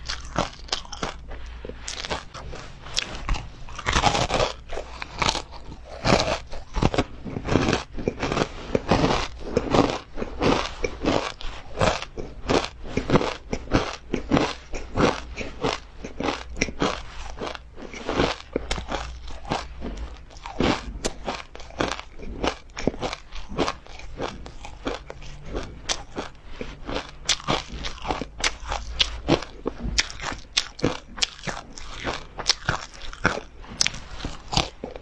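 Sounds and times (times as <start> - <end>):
crunching and chewing: 0.0 - 35.0.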